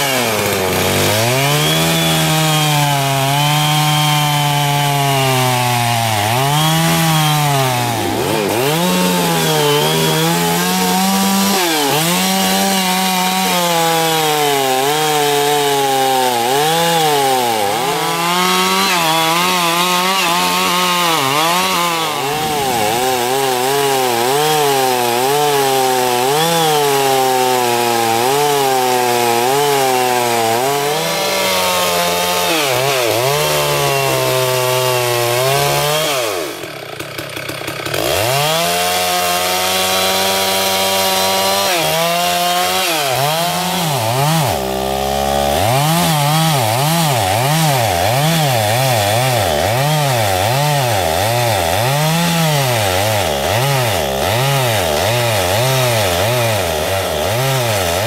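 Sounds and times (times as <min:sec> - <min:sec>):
chainsaw cutting tree trunk: 0:00.0 - 0:58.0.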